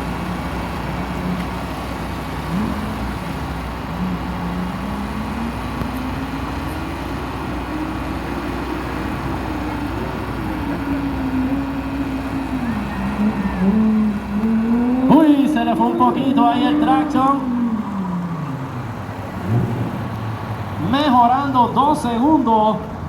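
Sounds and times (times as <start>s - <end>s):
sports car engine revving: 0.0s - 22.2s.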